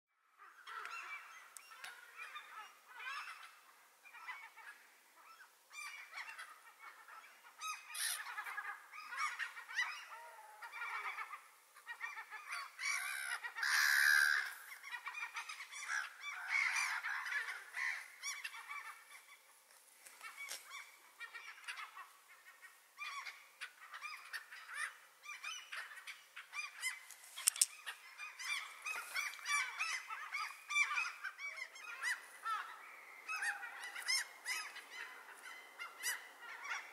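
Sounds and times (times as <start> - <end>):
gulls calling: 0.4 - 19.5, 20.1 - 36.9.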